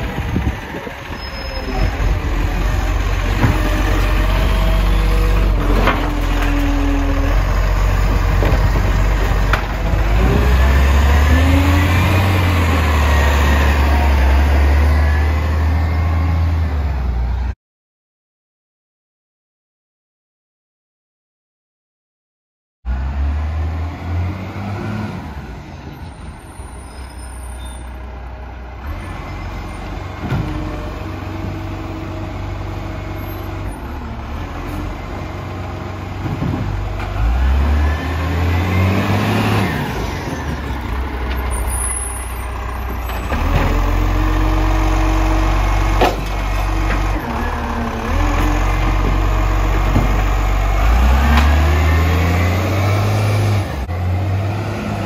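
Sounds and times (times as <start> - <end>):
diesel engine revving: 0.0 - 17.5, 22.9 - 26.7, 28.0 - 55.0.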